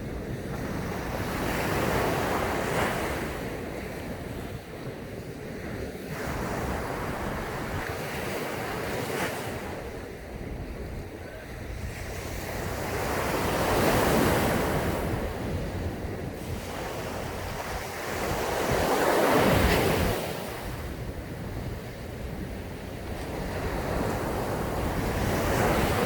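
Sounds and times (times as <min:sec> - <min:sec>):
waves breaking on sandy beach: 0:00.0 - 0:26.0
wind buffeting microphone: 0:00.0 - 0:26.0.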